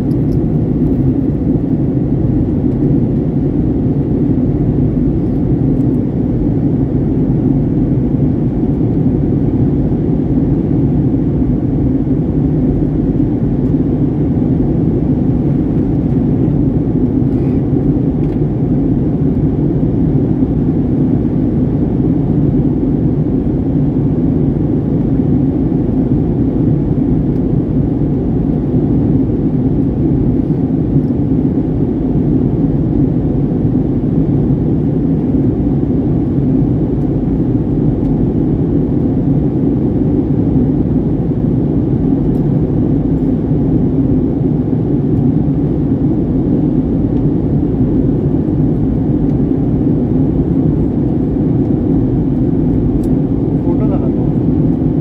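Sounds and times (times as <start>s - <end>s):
jet airliner cabin rumble: 0.0s - 55.0s.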